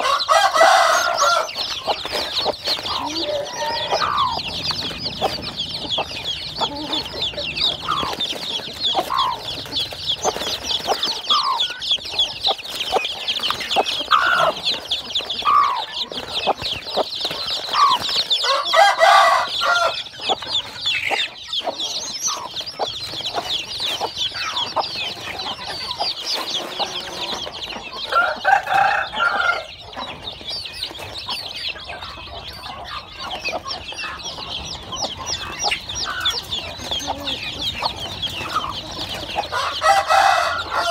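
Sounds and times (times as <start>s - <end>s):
chicks peeping: 0.0s - 40.9s
drawn-out hen calls: 0.0s - 40.9s
hen clucking: 0.0s - 40.9s.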